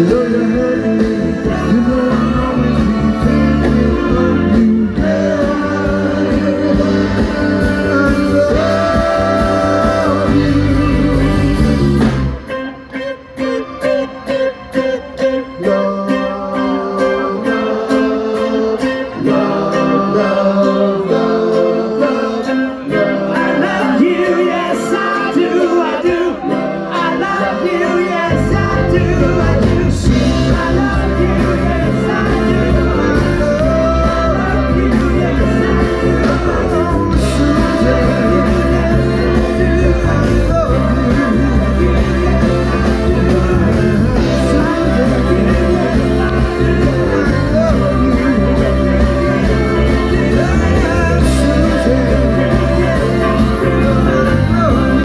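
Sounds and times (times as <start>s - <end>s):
live pop-rock band: 0.0s - 55.0s
person singing: 0.0s - 55.0s.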